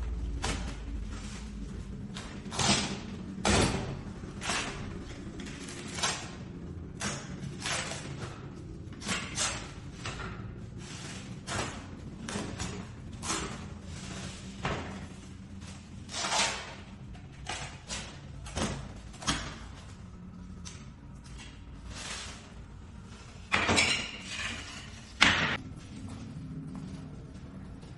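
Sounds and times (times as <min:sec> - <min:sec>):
low hum: 0:00.0 - 0:27.9.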